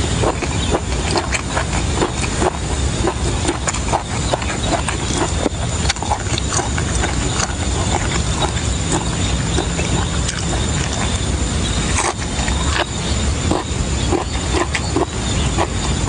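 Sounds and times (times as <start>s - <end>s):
steady low rumble: 0.0s - 16.0s
wet chewing and crunching: 0.0s - 16.0s.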